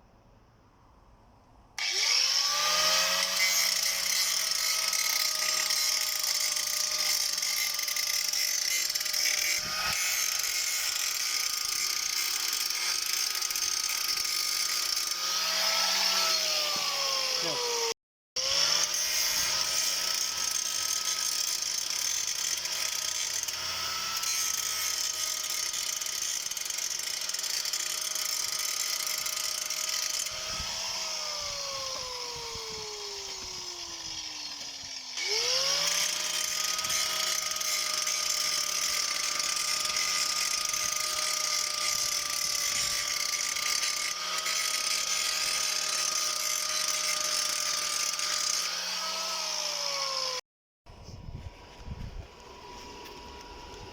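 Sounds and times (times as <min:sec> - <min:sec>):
electric power tool whining: 0:01.8 - 0:50.4.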